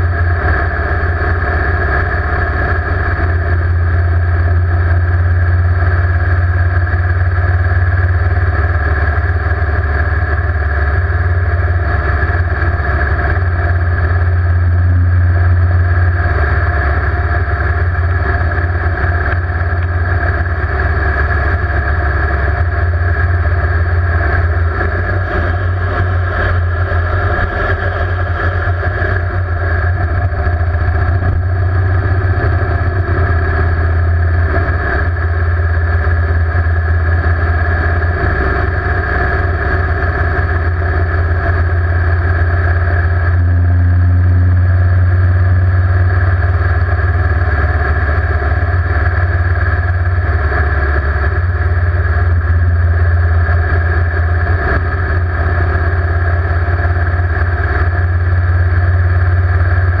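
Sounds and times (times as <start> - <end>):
motorcycle engine running: 0.0 - 60.0
wind rumble on microphone: 0.0 - 60.0.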